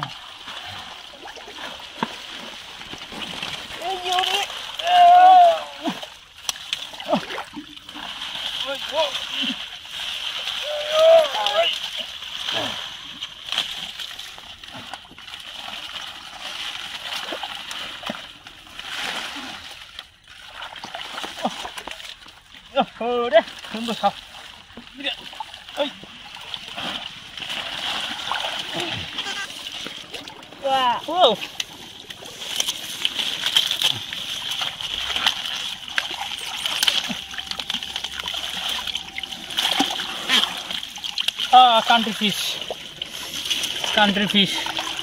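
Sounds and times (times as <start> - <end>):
shallow water splashing and sloshing: 0.0 - 45.0.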